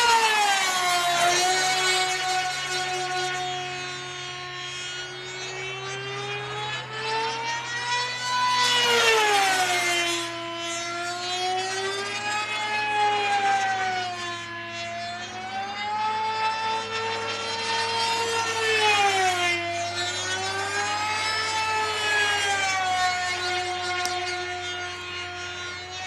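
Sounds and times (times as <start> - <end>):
model plane engine high whine: 0.0 - 26.0.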